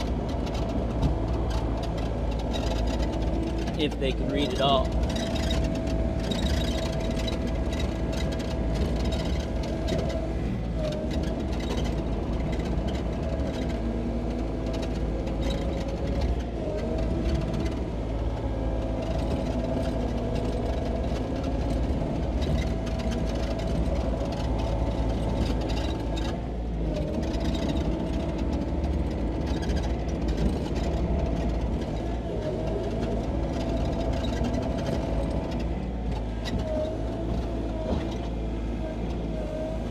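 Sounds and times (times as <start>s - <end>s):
excavator diesel engine whining: 0.0s - 39.9s.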